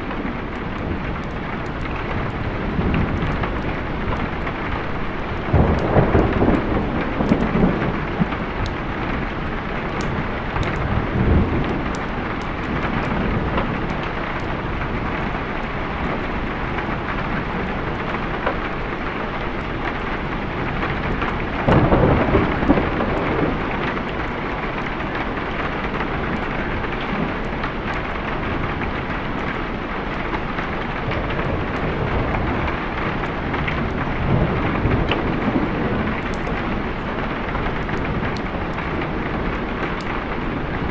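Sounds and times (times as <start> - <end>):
heavy rain: 0.0 - 40.9
thunder rumbling: 0.0 - 40.9.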